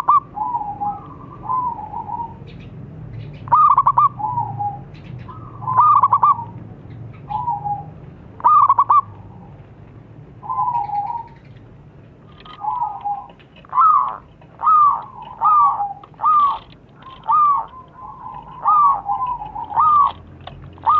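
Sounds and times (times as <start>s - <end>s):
dove cooing: 0.0s - 2.7s, 3.3s - 6.6s, 7.2s - 9.6s, 10.4s - 11.6s, 12.3s - 20.9s.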